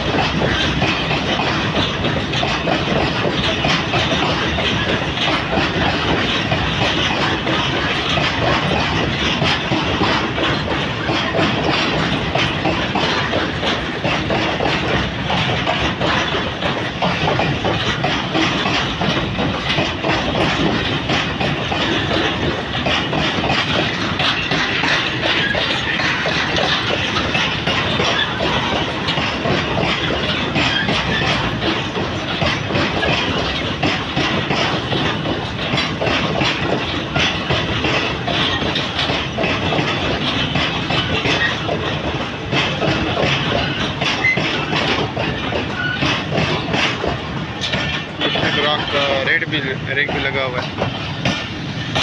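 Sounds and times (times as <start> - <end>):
train wheels rumbling: 0.0 - 52.0
wheels clacking on rail joints: 0.0 - 52.0.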